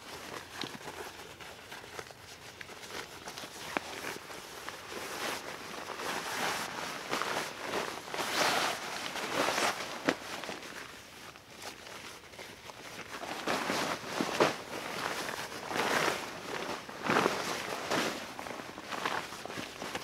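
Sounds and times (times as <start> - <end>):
synthetic fabric rustling and swishing: 0.0 - 20.0.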